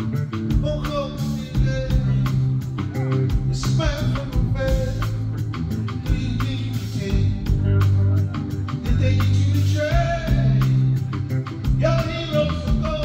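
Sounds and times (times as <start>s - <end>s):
live band music: 0.0s - 13.0s
man singing: 0.0s - 13.0s.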